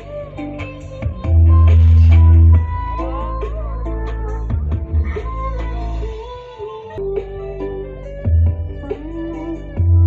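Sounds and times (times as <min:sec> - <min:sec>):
music with deep bass: 0:00.0 - 0:10.0.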